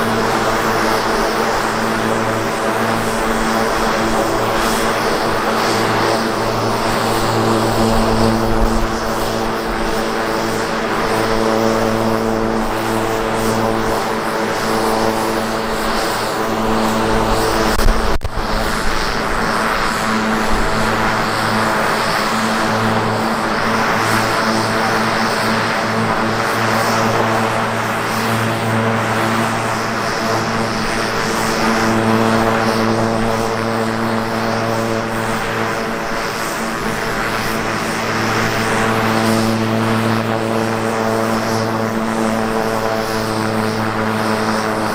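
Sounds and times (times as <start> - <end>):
propeller drone: 0.0 - 44.9.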